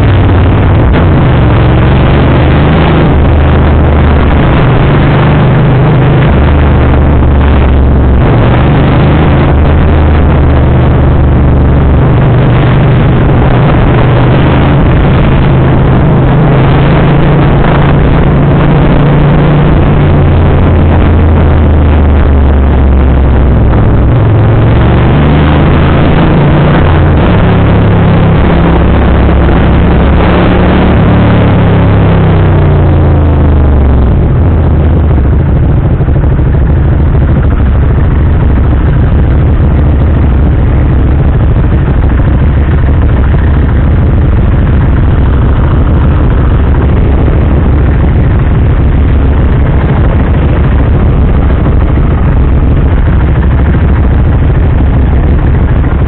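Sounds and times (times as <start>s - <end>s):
motorcycle engine running: 0.0s - 56.0s
road noise rushing: 0.0s - 56.0s.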